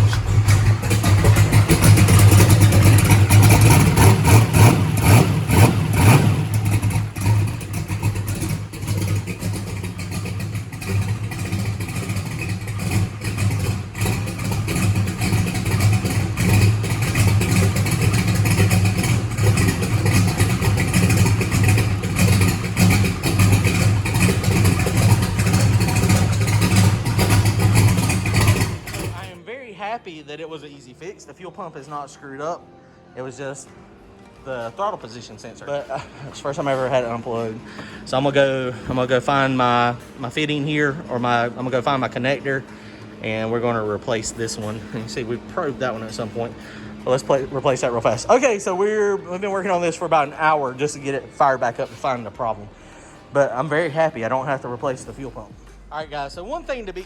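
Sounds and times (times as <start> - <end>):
race car engine idling: 0.0 - 29.4, 34.3 - 57.0.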